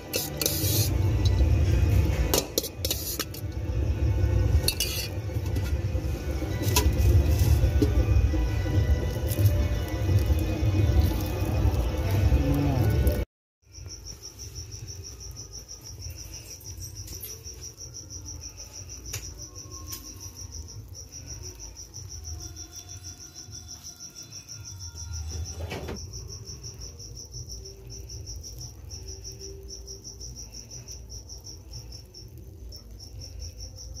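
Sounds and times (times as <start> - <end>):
cricket chirping: 6.6 - 34.0.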